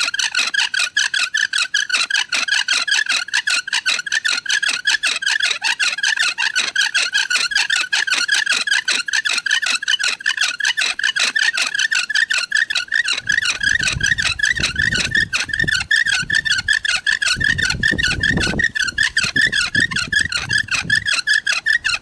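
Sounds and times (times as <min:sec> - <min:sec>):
bow drill squeaking: 0:00.0 - 0:22.0.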